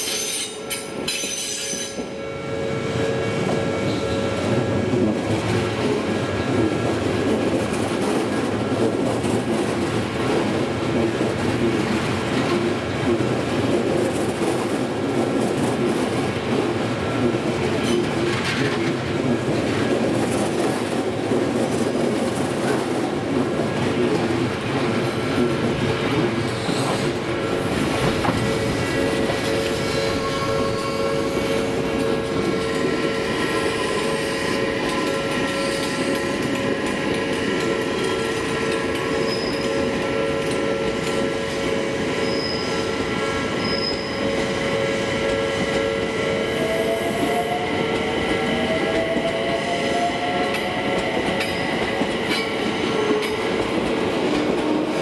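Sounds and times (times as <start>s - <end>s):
train wheels rumbling and clattering: 0.0s - 55.0s.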